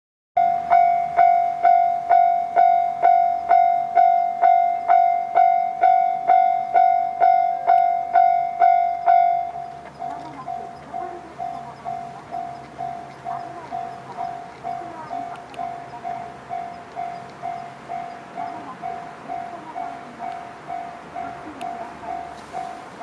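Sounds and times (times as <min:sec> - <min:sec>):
level crossing warning bell ringing: 0:00.4 - 0:23.0.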